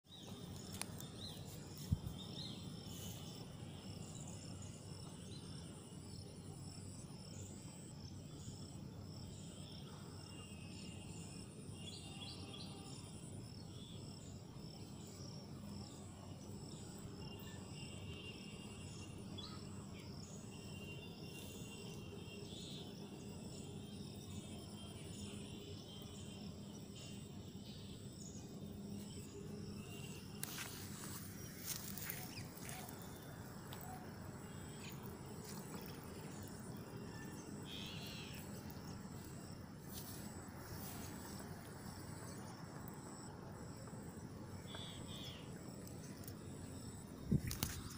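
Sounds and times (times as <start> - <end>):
insect chirping: 0.0 - 47.9
low outdoor hum: 0.1 - 47.9.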